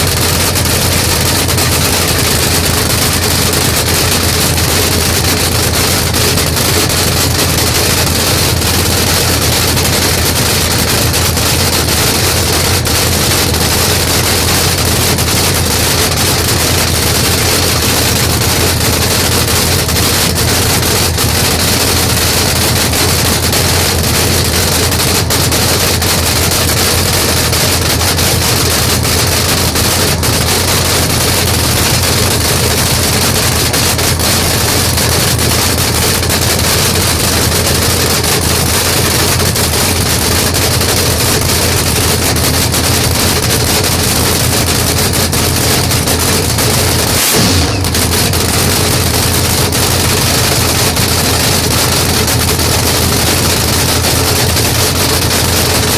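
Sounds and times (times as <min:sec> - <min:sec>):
loud engine idling with exhaust crackle: 0:00.0 - 0:55.9.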